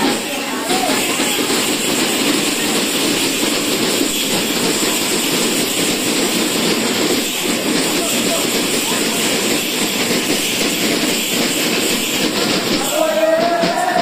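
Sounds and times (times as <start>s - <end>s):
crowd din: 0.0s - 14.0s
festival drumming: 0.0s - 14.0s.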